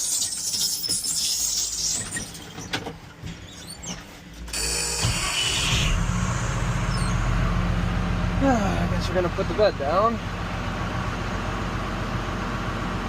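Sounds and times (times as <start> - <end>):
truck engine running: 1.8 - 13.0.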